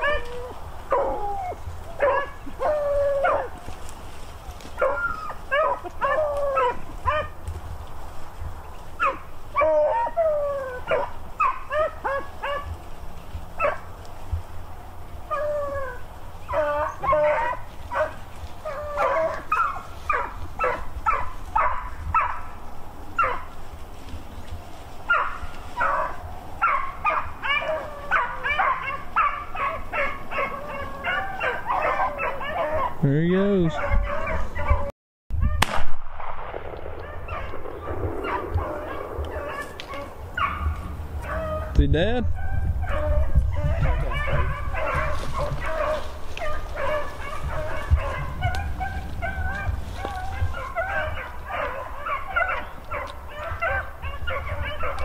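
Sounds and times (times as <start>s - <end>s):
dogs baying and yelping: 0.0s - 8.2s, 8.8s - 14.0s, 15.0s - 24.1s, 24.7s - 35.6s, 36.9s - 55.0s.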